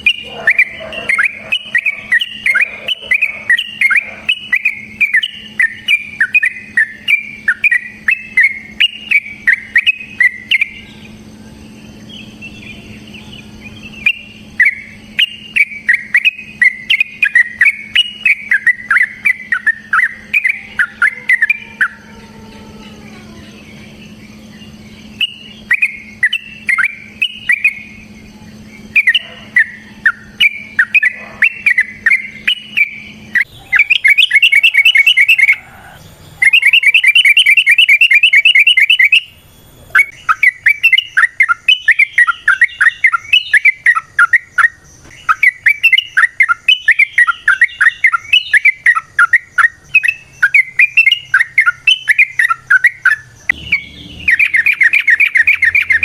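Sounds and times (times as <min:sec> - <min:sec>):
bird singing chattering phrases: 0:00.0 - 0:56.0.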